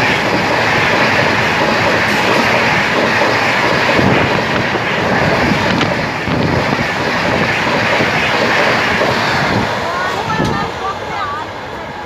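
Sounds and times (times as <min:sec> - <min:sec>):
wind buffeting microphone: 0:00.0 - 0:10.8
train wheels rushing on rails: 0:00.0 - 0:12.0.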